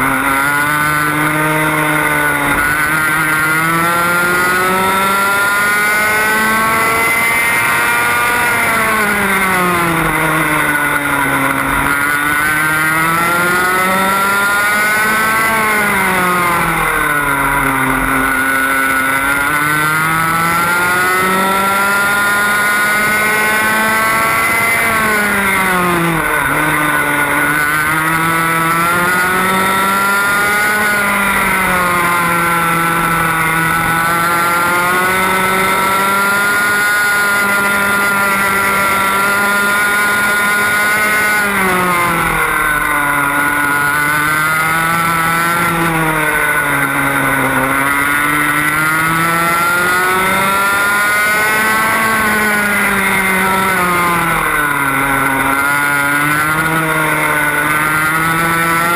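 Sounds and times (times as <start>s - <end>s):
kart engine running hard: 0.0s - 58.9s.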